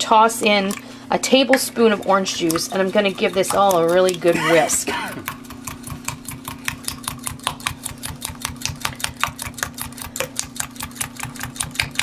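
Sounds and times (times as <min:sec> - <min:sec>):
fork whisking in glass cup: 0:00.0 - 0:12.0.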